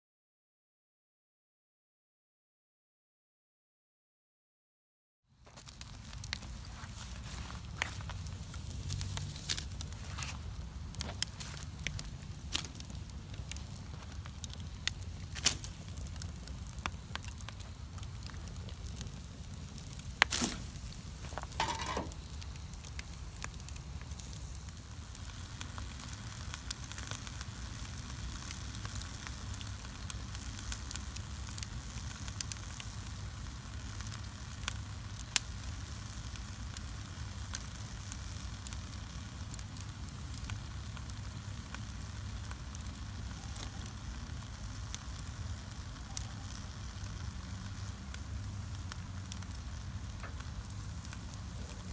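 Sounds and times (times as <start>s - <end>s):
bonfire hissing and crackling: 5.3s - 51.9s
sharp pops from fire: 5.5s - 51.9s.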